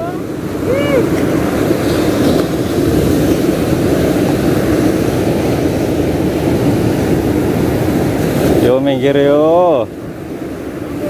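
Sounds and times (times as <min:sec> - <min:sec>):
beach surf rushing: 0:00.0 - 0:11.0
wind buffeting microphone: 0:00.0 - 0:11.0.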